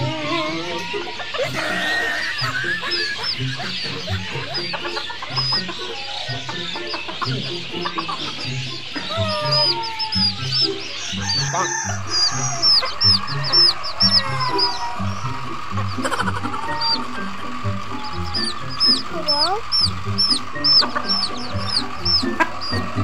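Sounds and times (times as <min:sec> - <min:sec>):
chickens clucking: 0:00.0 - 0:23.0
high-pitched chirps: 0:01.2 - 0:23.0.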